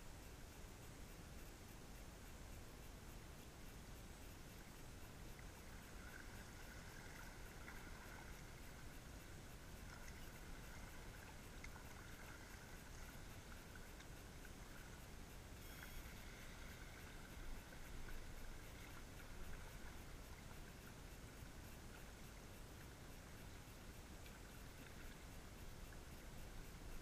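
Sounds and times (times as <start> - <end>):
river rumble and hiss: 0.0 - 27.0
kayak paddling: 4.5 - 27.0.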